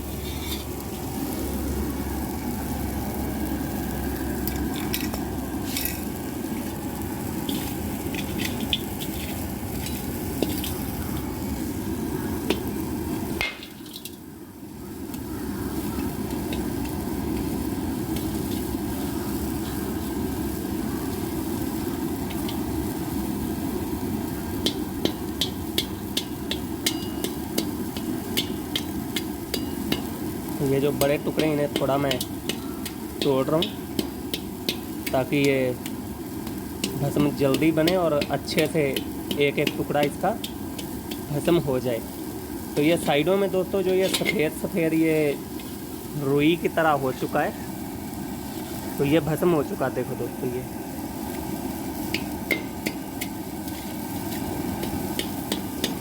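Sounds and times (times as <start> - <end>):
crackling and sizzling: 0.0 - 56.0
stove burner noise: 0.0 - 56.0.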